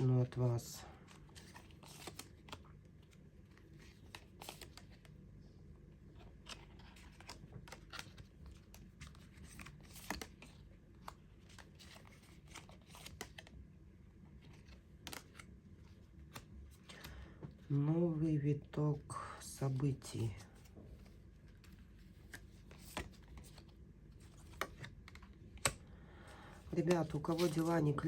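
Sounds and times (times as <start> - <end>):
cards clicking and rustling: 0.3 - 5.1, 6.2 - 13.6, 14.3 - 17.6, 20.1 - 28.0.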